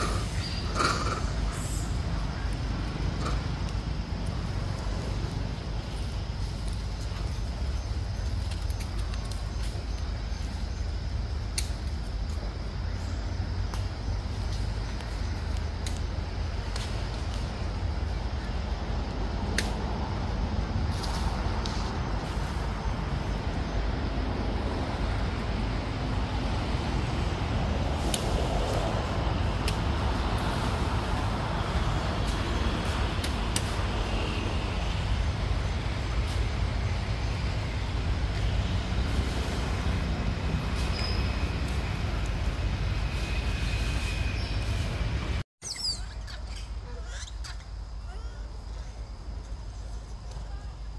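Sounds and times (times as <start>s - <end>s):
outdoor background rumble: 0.0s - 50.9s.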